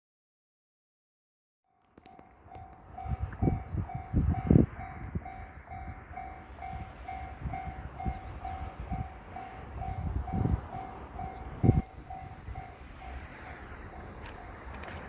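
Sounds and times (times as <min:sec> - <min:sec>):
level-crossing warning bell ringing: 0:01.7 - 0:15.0.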